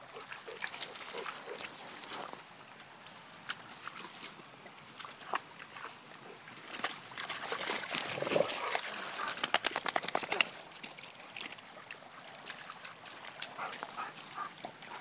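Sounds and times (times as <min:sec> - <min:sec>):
dogs splashing through water: 0:00.0 - 0:15.0.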